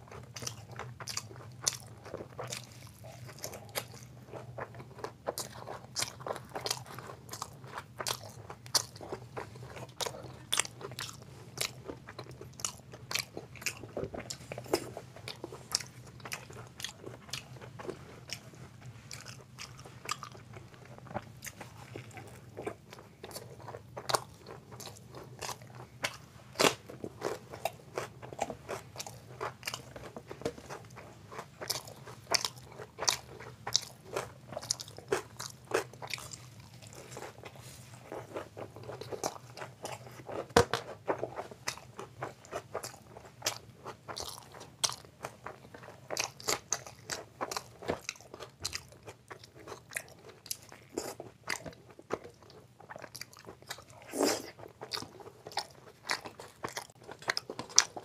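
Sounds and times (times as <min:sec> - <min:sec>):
man chewing food: 0:00.0 - 0:58.0.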